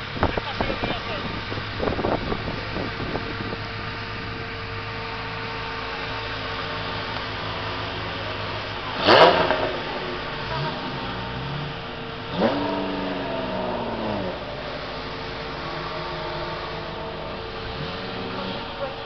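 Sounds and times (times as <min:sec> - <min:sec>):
car engines idling: 0:00.0 - 0:19.0
sports car engine revving: 0:00.0 - 0:19.0.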